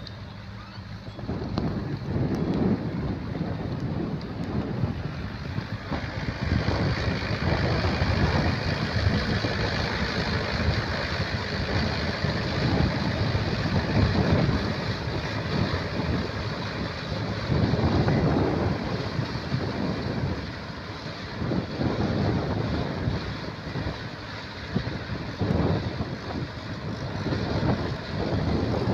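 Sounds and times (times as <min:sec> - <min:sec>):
tractor engine running: 0:00.0 - 0:28.9
wind buffeting microphone: 0:00.0 - 0:28.9.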